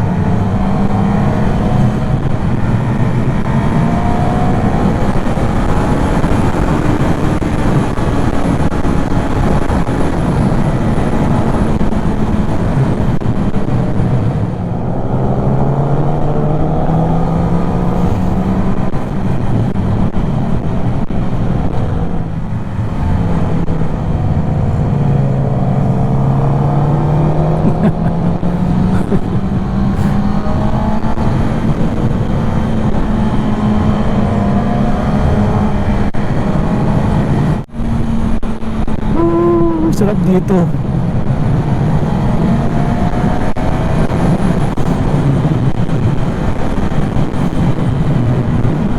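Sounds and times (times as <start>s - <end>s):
motorcycle engine accelerating: 0.0s - 48.9s
steady rushing noise: 0.0s - 48.9s.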